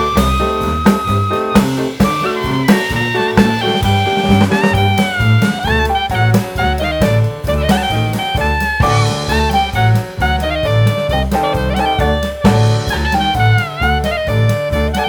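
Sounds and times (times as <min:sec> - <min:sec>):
drum kit: 0:00.0 - 0:15.0
horn melody: 0:00.0 - 0:15.0
walking bass: 0:00.0 - 0:15.0.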